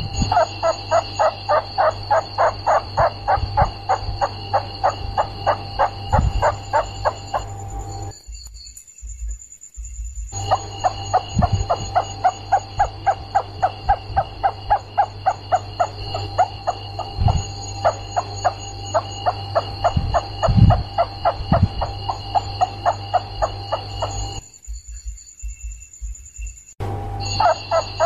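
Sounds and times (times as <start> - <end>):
rats squeaking: 0.0 - 8.2, 10.4 - 25.1, 27.3 - 28.0
high-pitched whine: 0.0 - 25.5, 26.3 - 28.0
low hum: 0.0 - 28.0.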